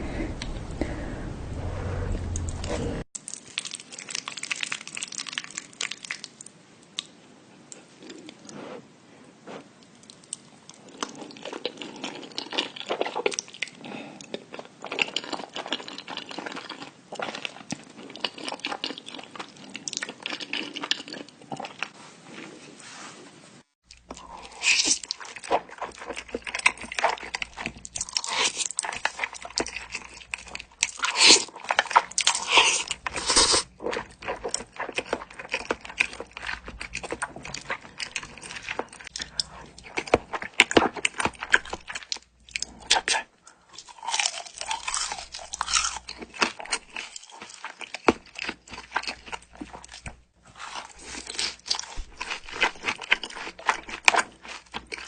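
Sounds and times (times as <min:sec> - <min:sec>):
chewing crispy food: 0:02.4 - 0:08.6, 0:09.8 - 0:22.0, 0:23.8 - 0:55.0.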